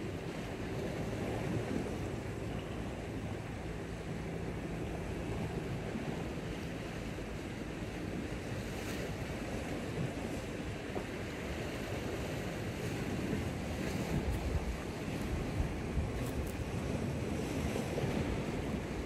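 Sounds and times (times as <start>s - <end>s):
surf on rocky shore: 0.0s - 19.0s
wind on microphone: 0.0s - 19.0s.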